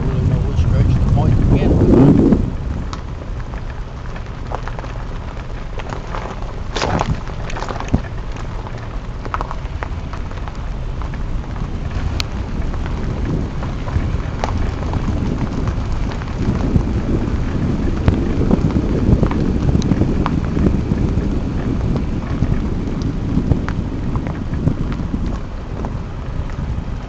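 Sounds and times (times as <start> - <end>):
vehicle road noise: 0.0 - 27.0
wind rumble: 0.0 - 27.0.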